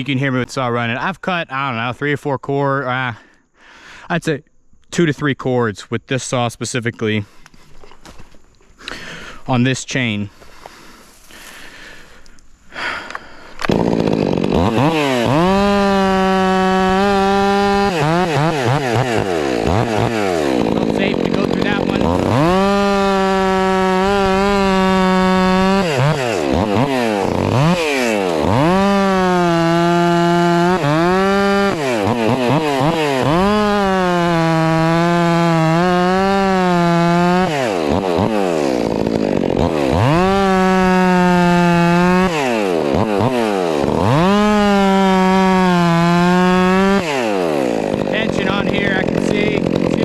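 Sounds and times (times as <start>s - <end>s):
chainsaw cutting logs: 7.0s - 50.0s.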